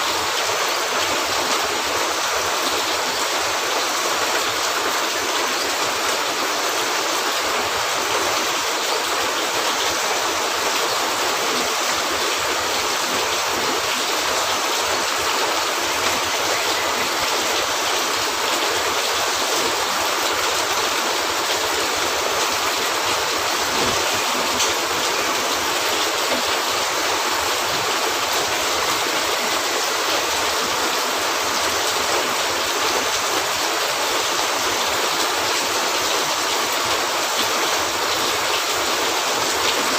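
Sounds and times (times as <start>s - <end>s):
rain hitting a roof: 0.0s - 39.9s.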